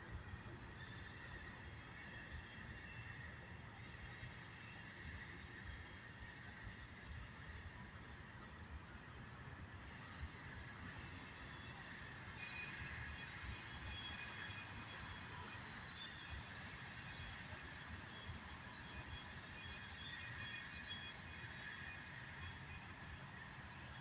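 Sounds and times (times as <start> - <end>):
low rumble of wheels on rail: 0.0 - 24.0.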